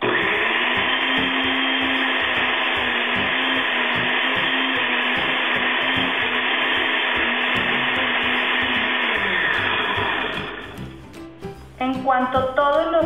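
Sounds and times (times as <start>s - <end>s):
blender motor winding down: 0.0s - 11.0s
blender running: 0.0s - 11.0s.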